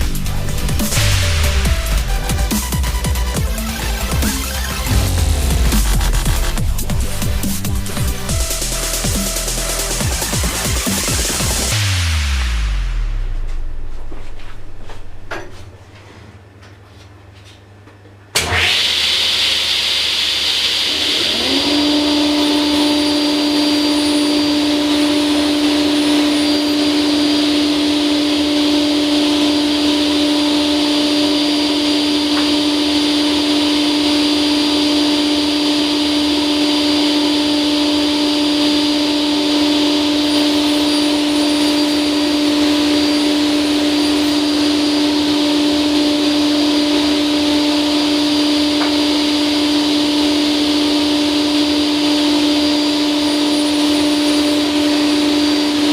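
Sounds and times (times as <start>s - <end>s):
table saw whine: 0.0s - 15.6s, 18.4s - 55.9s.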